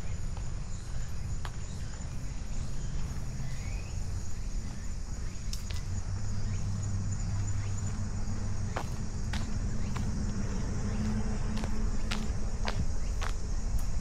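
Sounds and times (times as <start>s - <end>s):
footsteps outdoors: 0.0s - 14.0s
insects trilling: 0.0s - 14.0s.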